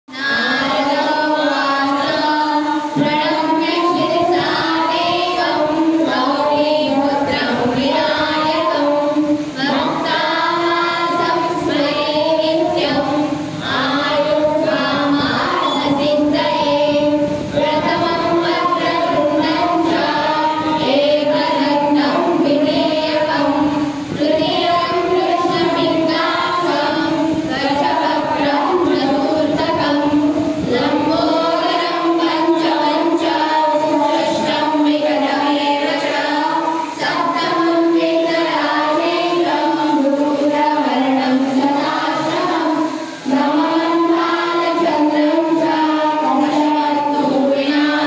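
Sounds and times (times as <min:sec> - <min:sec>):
children and women singing: 0:00.1 - 0:48.0.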